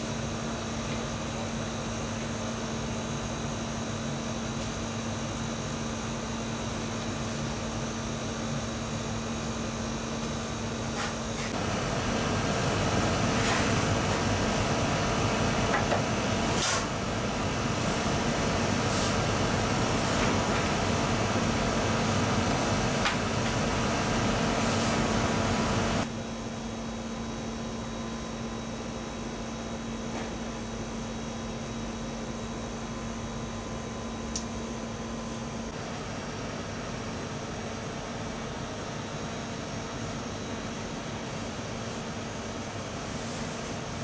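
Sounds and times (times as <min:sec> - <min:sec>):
oven fan whirring hum: 0:00.0 - 0:44.0.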